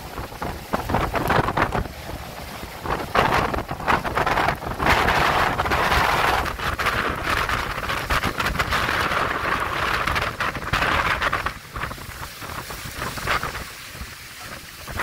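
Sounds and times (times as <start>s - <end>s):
driving rain: 0.0s - 15.0s
hurricane wind: 0.0s - 15.0s
wind gusts buffeting microphone: 0.0s - 15.0s.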